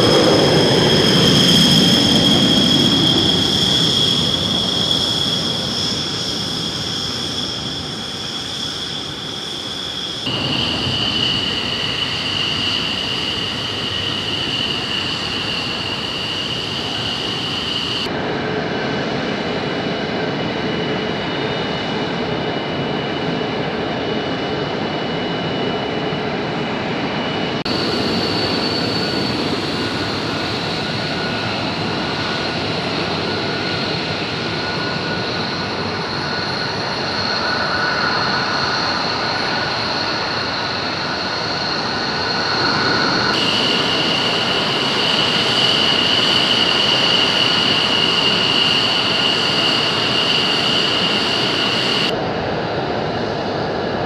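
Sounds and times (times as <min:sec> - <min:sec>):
fighter jet engines whining: 0:00.0 - 0:54.0.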